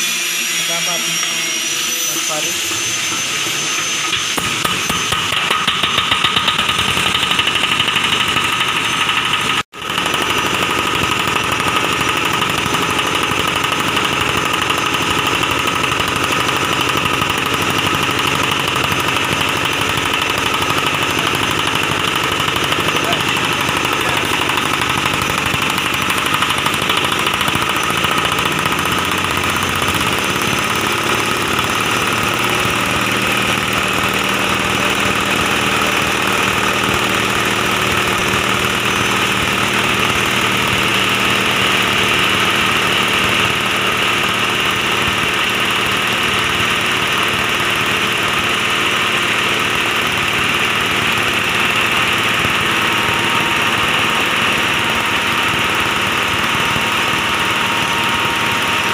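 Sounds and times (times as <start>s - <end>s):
hammer mill running loudly: 0.0s - 58.9s.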